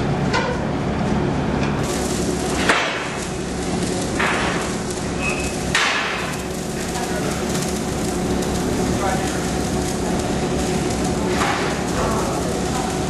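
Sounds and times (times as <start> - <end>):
steady machinery noise: 0.0 - 13.0.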